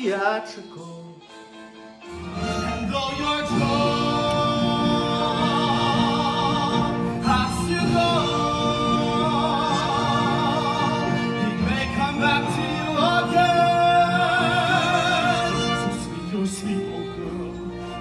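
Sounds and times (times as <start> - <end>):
instrumental accompaniment: 0.0 - 18.0
man singing with vibrato: 0.0 - 18.0.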